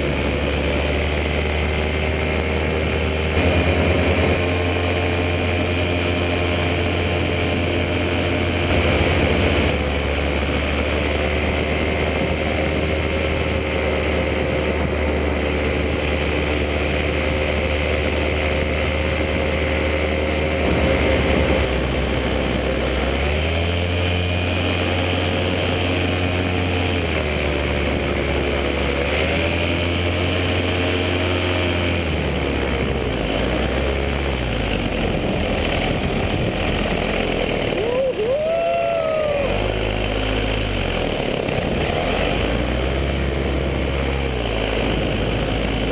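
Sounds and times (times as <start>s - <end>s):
paramotor engine and propeller: 0.0s - 45.9s.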